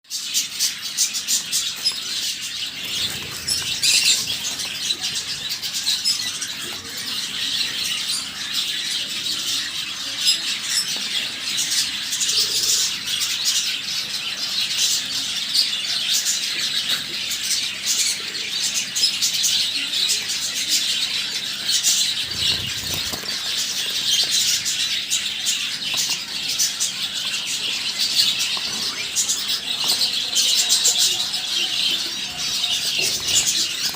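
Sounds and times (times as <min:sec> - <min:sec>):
finches chirping: 0:00.2 - 0:15.1, 0:16.0 - 0:33.9.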